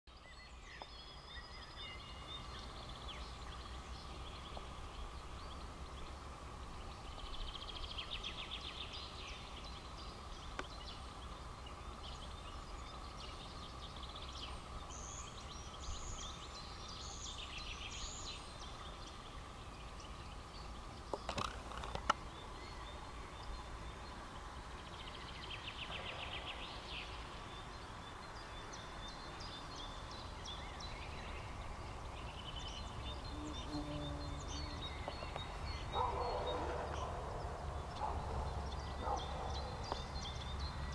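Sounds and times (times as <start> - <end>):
faint steady hum: 0.1 - 40.9
songbirds singing: 0.1 - 40.9.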